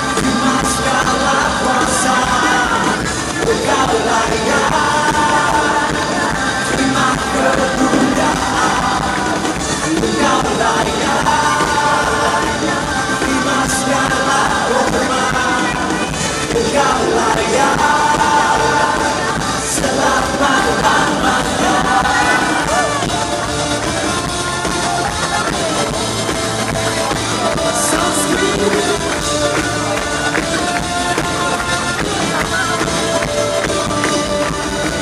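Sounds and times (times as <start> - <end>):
band playing worship music: 0.0 - 35.0
voices singing together: 0.0 - 35.0.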